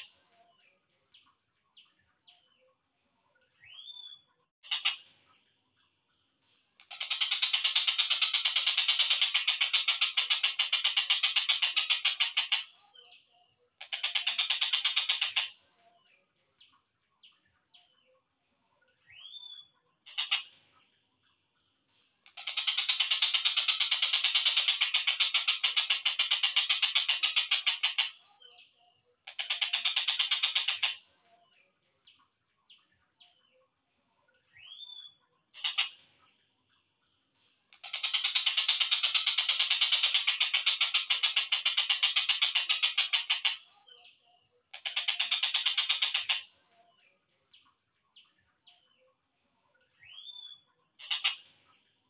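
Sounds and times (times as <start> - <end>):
faint bird chirps: 0.0 - 52.0.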